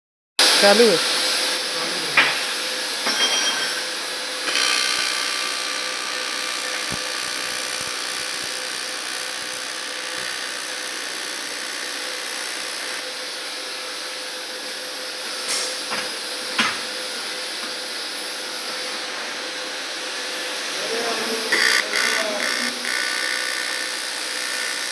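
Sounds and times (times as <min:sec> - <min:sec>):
welding hiss: 0:00.4 - 0:24.9.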